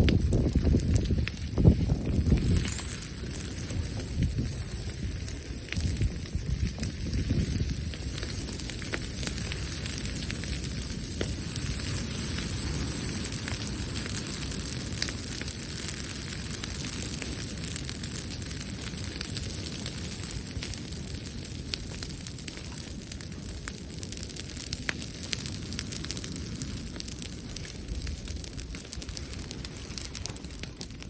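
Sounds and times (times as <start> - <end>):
campfire pops and crackles: 0.0 - 31.0.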